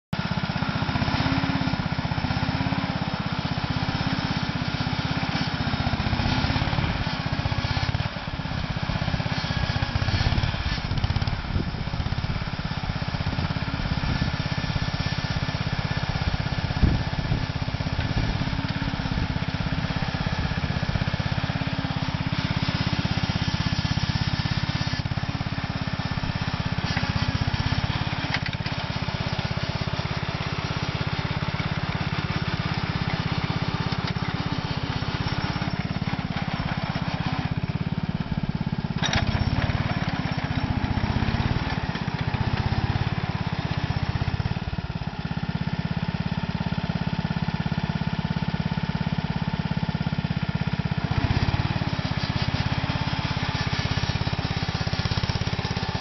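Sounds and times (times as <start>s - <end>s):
small dozer engine running: 0.1s - 56.0s.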